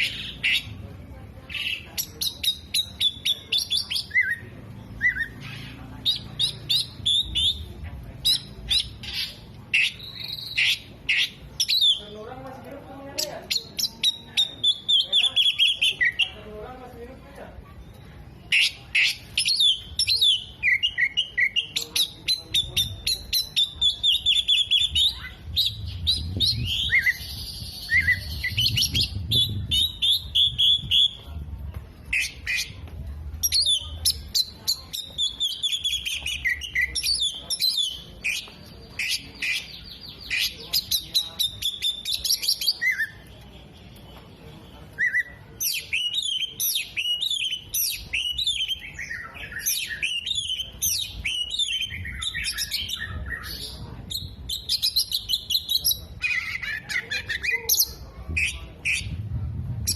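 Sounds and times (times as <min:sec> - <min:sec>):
bird singing varied song: 0:00.0 - 0:31.4, 0:32.0 - 0:59.9.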